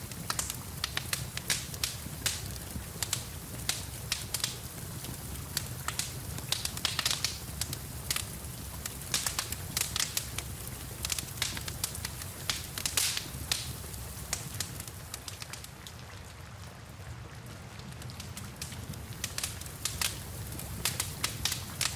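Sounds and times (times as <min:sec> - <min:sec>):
rain hissing and rumbling: 0:00.0 - 0:21.9
wood fire crackling: 0:00.0 - 0:21.9
sharp pops and snaps: 0:00.2 - 0:15.7, 0:18.0 - 0:21.9.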